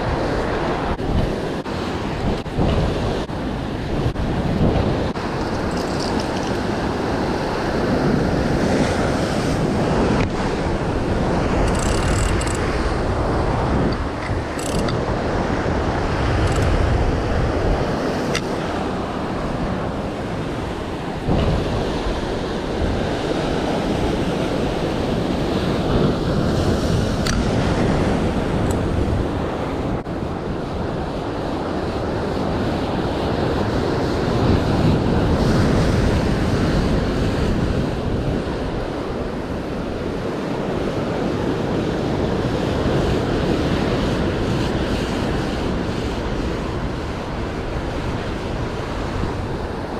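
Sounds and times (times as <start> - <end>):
surf washing against rocks: 0.0 - 49.9
wind buffeting microphone: 0.0 - 49.9.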